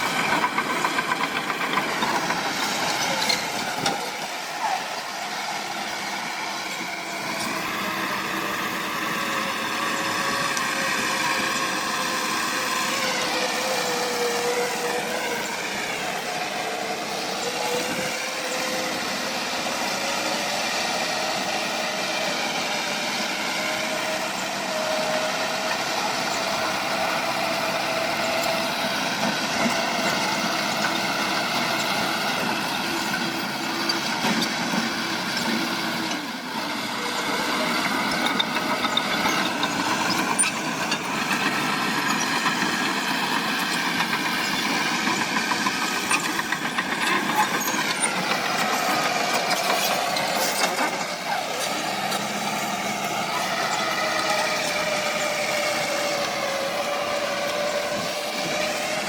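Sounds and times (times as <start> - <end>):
heavy diesel engine under load: 0.0 - 59.0.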